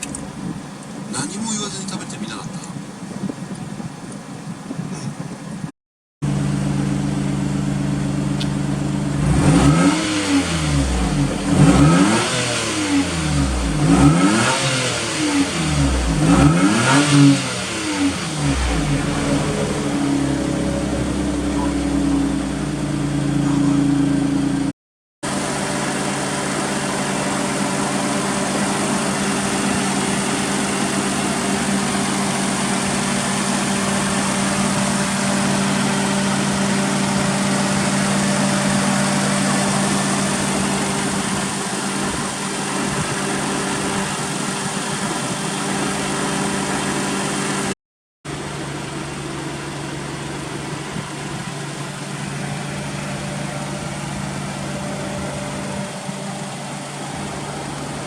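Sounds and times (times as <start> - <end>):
small car engine idling: 0.0 - 14.1, 17.1 - 47.7, 48.3 - 58.0.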